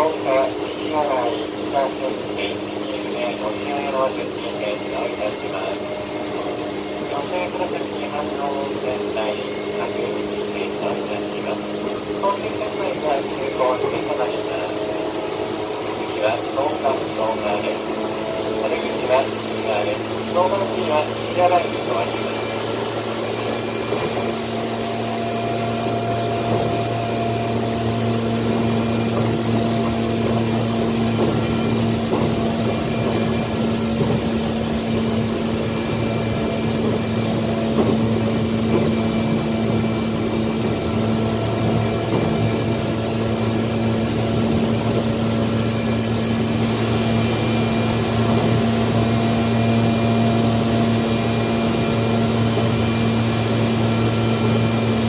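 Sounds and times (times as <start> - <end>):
electric train hum: 0.0 - 55.0
train rolling rumble: 0.0 - 55.0.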